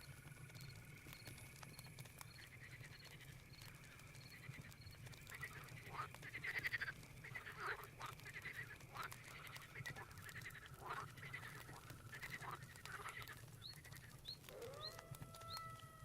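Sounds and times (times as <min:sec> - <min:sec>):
campfire crackling and popping: 0:00.0 - 0:16.0
frogs croaking: 0:00.0 - 0:16.0
insects trilling: 0:00.0 - 0:16.0.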